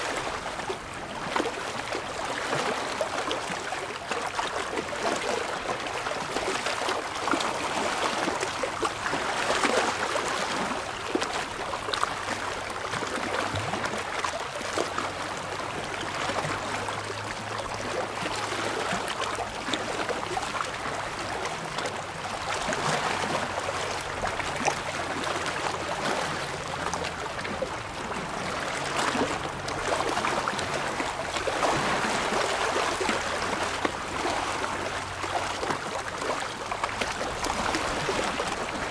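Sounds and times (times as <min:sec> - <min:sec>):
small waves lapping on rocks: 0:00.0 - 0:38.9.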